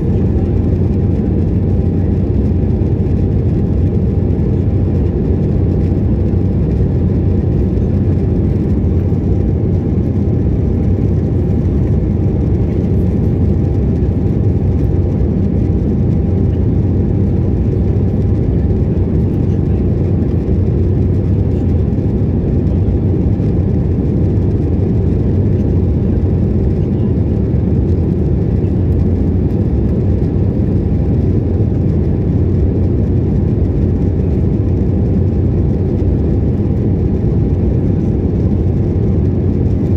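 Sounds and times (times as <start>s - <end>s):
airliner engine low rumble: 0.0s - 39.9s.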